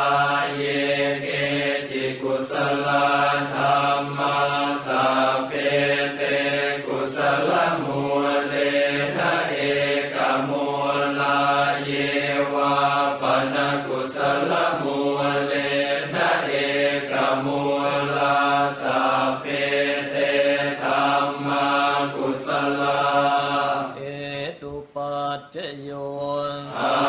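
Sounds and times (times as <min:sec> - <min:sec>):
monotone chanting: 0:00.0 - 0:27.0.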